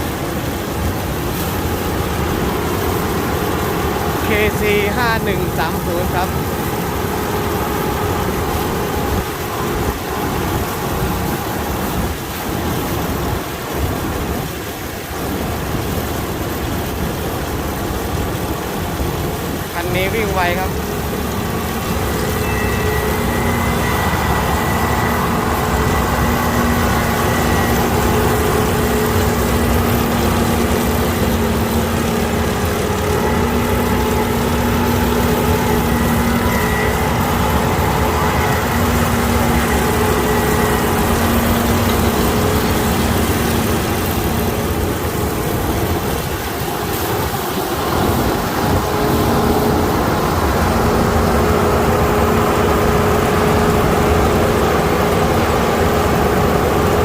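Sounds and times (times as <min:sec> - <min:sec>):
combine harvester drone: 0:00.0 - 0:57.0
mechanical whine: 0:00.0 - 0:57.0.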